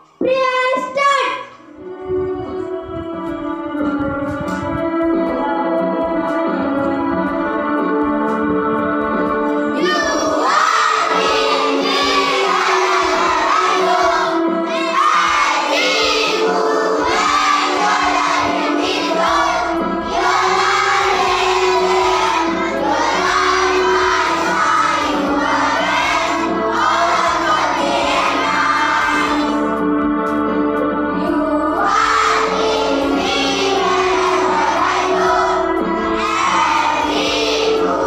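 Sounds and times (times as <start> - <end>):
electronic keyboard sustained notes: 1.7 - 38.0
children singing in unison: 1.8 - 30.2, 31.0 - 38.0.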